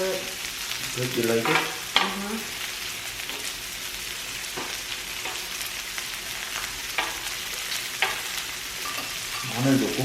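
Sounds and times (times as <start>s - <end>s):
meat sizzling on a grill: 0.0s - 10.0s.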